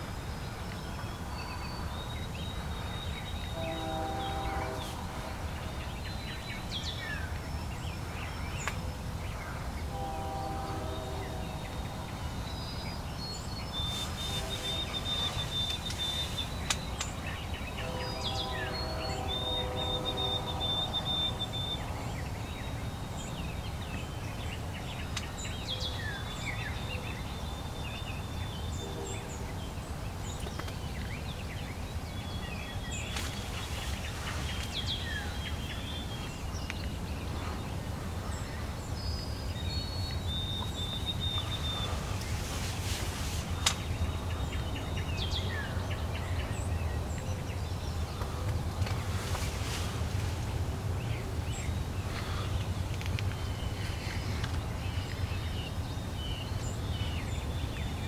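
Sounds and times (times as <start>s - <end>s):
songbirds trilling: 0.0s - 58.0s.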